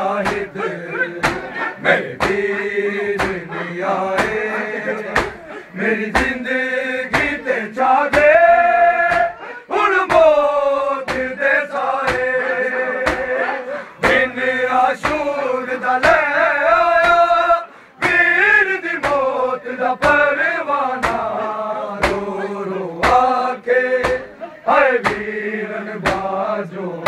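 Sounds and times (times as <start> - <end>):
men chanting: 0.0 - 27.0
rhythmic chest-beating: 0.0 - 27.0.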